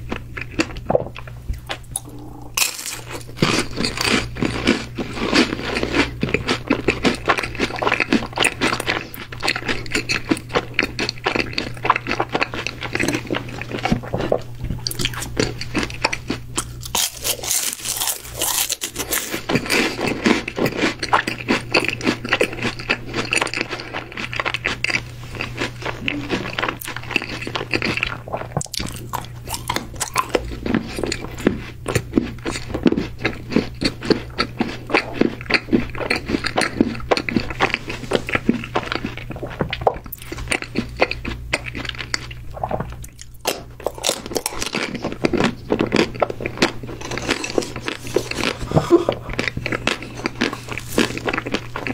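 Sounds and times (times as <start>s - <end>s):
crunchy snack chewing: 0.1s - 51.9s.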